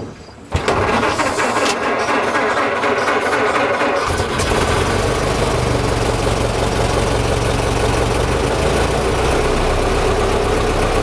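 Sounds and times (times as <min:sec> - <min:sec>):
truck engine idling: 0:00.7 - 0:11.0.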